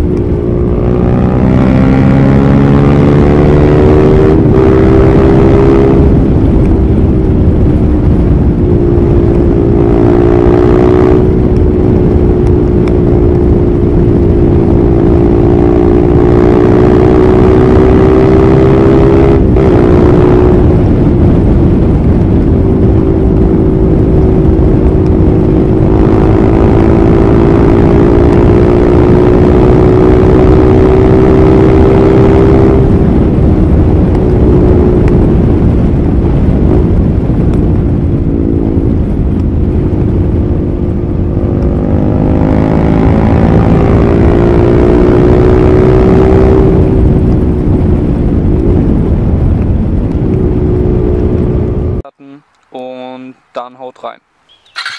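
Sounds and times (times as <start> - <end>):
motorcycle engine: 0.0 - 52.0, 54.6 - 54.9.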